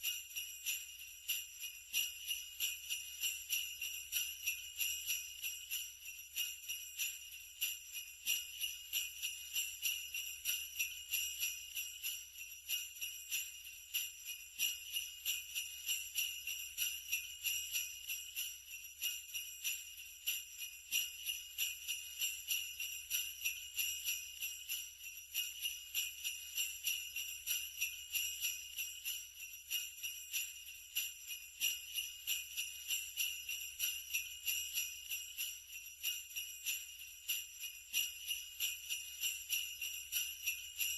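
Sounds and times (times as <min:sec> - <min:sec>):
sleigh bells jingling: 0:00.0 - 0:40.9.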